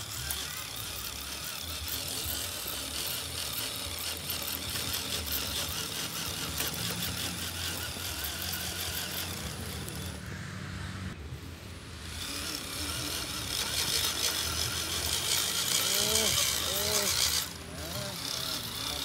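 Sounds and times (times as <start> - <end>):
toy truck electric motor whining: 0.0 - 19.0.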